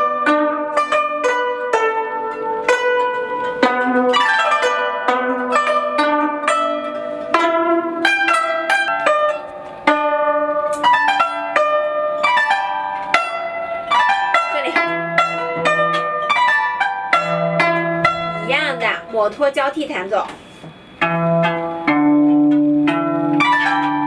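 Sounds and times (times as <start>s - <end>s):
plucked zither notes: 0.0s - 24.0s.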